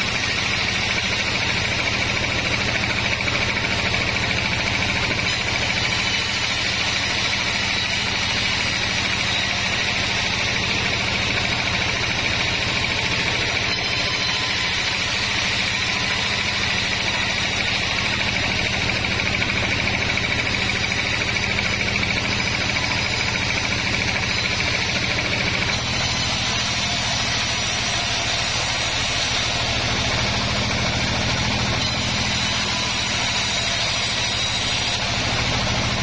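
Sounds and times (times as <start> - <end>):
sawmill machinery running: 0.0 - 36.0.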